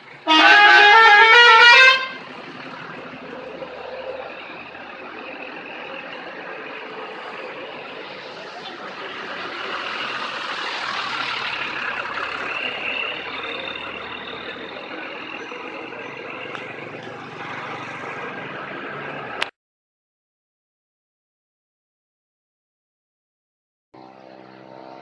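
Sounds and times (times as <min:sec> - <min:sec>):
bus engine and tyre noise: 0:00.0 - 0:19.6, 0:24.0 - 0:25.0.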